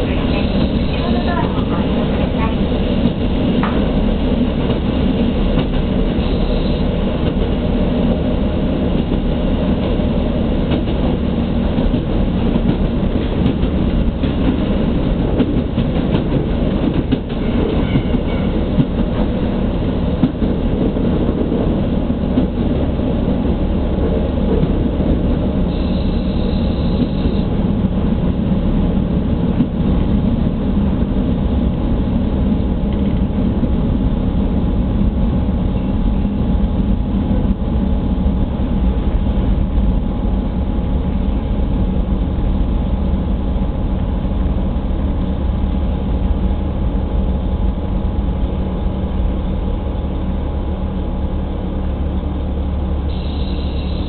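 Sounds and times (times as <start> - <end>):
train engine drone: 0.0 - 54.0.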